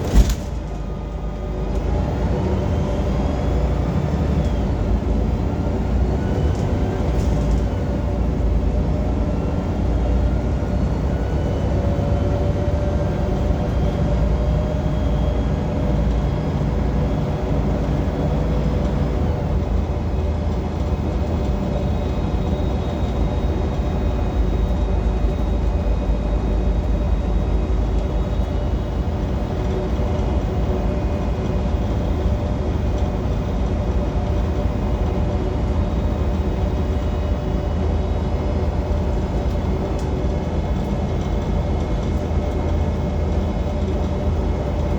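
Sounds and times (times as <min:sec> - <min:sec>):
bus drivetrain and road rumble: 0:00.0 - 0:44.9.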